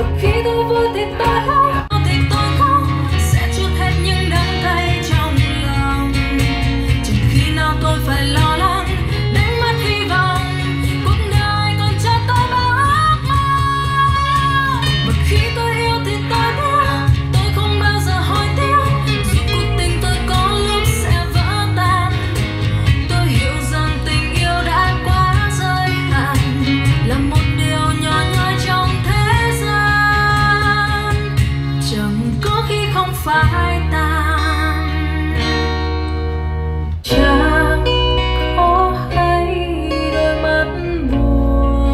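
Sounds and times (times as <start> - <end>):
pop song with guitar and bass: 0.0 - 41.9.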